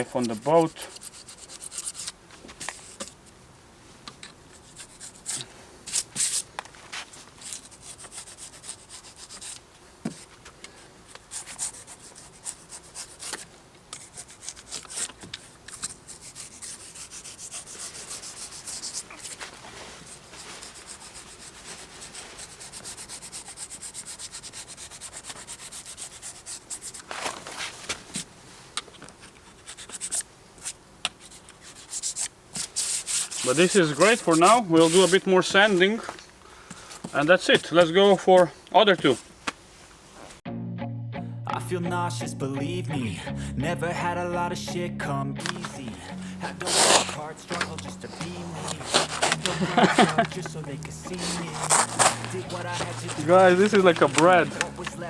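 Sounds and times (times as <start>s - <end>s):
knife scraping foam: 0.0s - 3.2s, 4.6s - 10.4s, 11.1s - 28.3s, 29.2s - 39.4s, 45.4s - 55.0s.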